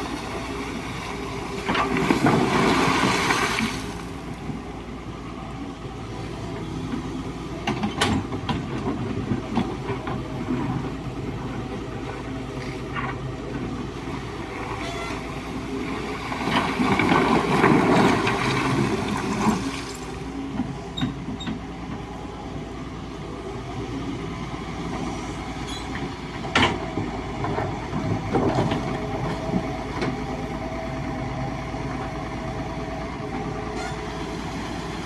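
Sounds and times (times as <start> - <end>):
excavator diesel engine: 0.0 - 35.0.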